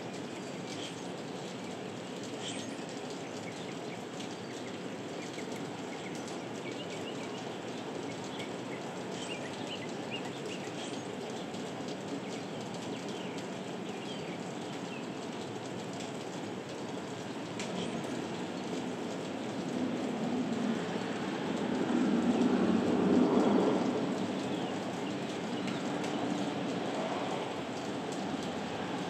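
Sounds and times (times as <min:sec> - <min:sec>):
heavy rain hiss: 0:00.0 - 0:29.0.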